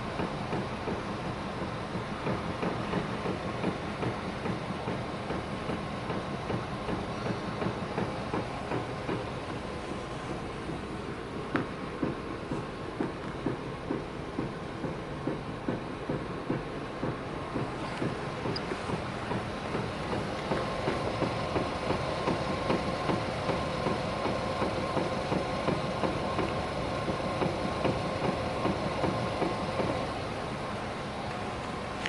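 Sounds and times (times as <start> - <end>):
dull steering knock: 0.0 - 32.0
steady hum: 0.0 - 32.0.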